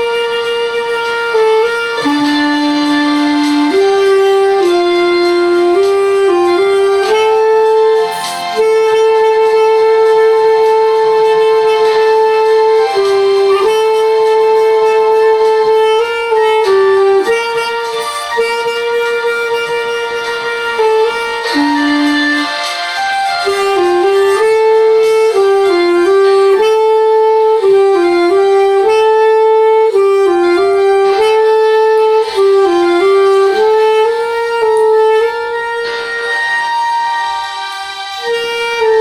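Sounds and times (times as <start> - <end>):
clarinet playing slow melody: 0.0 - 39.0.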